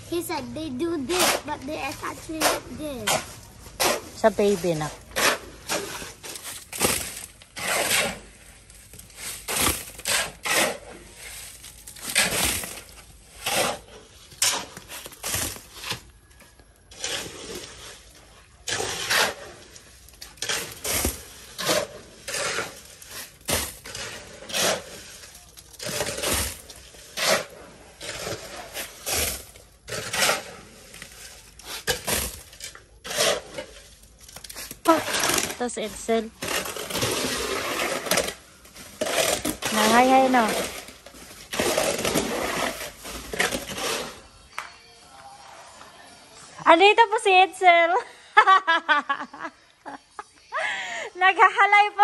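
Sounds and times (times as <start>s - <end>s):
gravel rattling off shovels: 0.0s - 44.4s
shovels scraping concrete floor: 0.0s - 46.8s.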